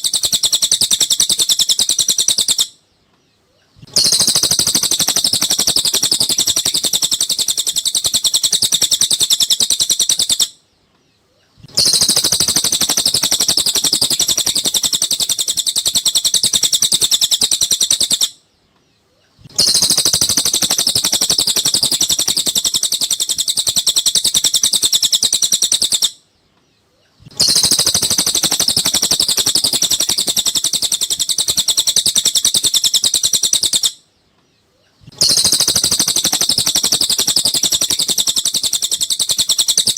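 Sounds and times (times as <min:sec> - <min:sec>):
rapid high bird twittering: 0:00.0 - 0:02.8, 0:03.5 - 0:10.6, 0:11.4 - 0:18.4, 0:19.2 - 0:26.2, 0:27.0 - 0:34.0, 0:34.8 - 0:39.9.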